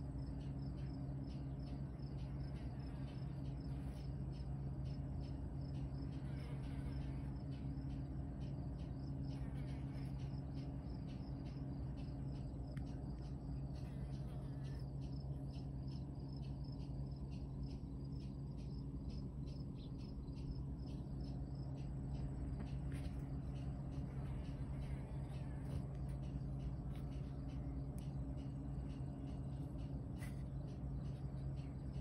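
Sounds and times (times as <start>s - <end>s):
insects chirping: 0.0s - 32.0s
low steady hum: 0.0s - 32.0s.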